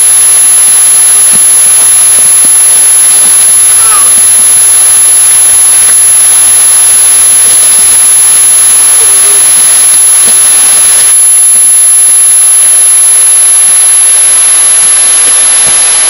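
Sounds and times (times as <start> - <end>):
loud steady hiss: 0.0 - 16.0.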